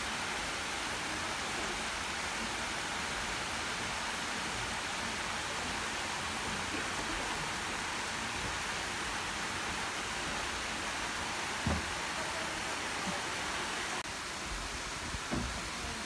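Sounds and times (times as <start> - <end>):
stream rushing over stones: 0.0 - 16.0.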